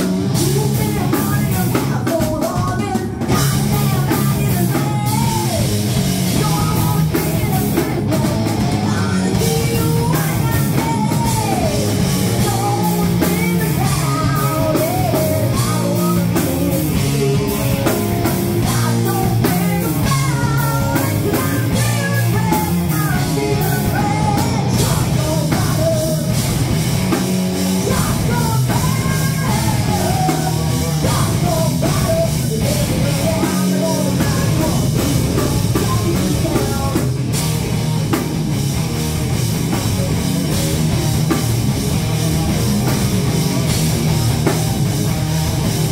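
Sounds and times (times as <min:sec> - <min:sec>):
woman singing lead: 0:00.0 - 0:38.2
live rock band playing: 0:00.0 - 0:45.9.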